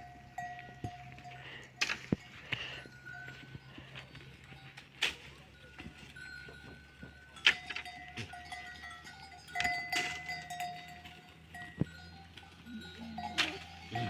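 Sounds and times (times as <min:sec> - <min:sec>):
metal bells clanking: 0:00.0 - 0:14.0.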